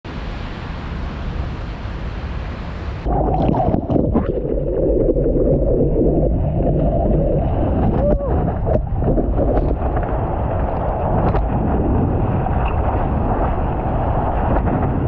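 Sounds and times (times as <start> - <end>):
wind: 0.0 - 15.0
muffled rush of water: 0.1 - 15.0
surf: 0.1 - 15.0.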